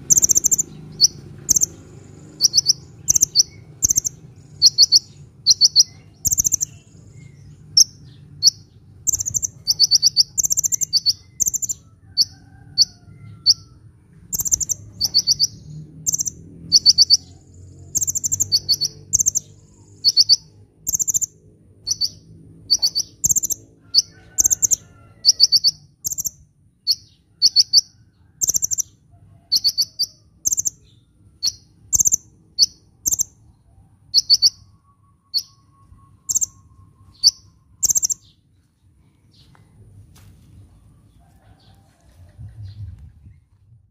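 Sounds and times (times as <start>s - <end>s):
bird chattering trills: 0.0s - 13.7s, 14.3s - 28.9s, 29.5s - 33.4s, 34.2s - 34.7s, 35.3s - 38.3s.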